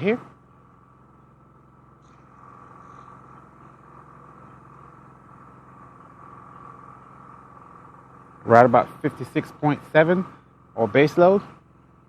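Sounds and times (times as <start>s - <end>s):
generator humming with whine: 0.0s - 12.0s.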